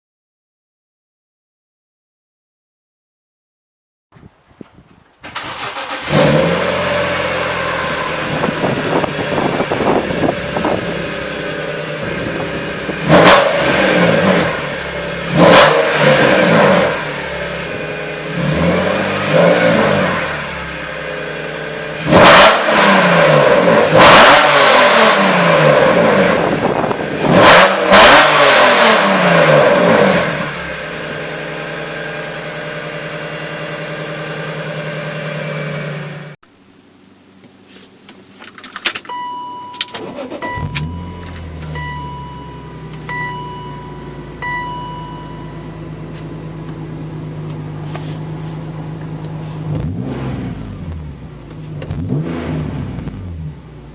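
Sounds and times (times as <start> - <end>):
car engine starting and revving: 5.2 - 36.4, 39.1 - 53.9.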